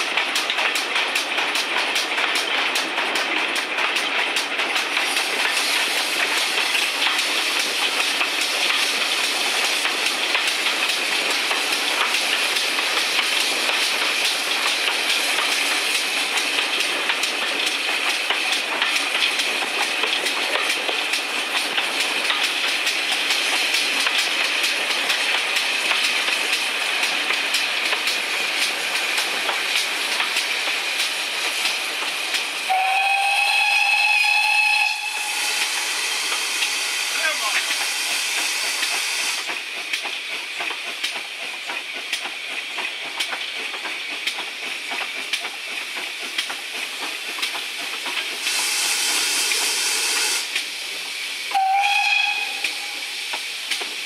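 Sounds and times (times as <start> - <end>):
wheels clicking over rail joints: 0.0 - 32.6, 37.2 - 48.5
train wheels rolling on rails: 0.0 - 54.0.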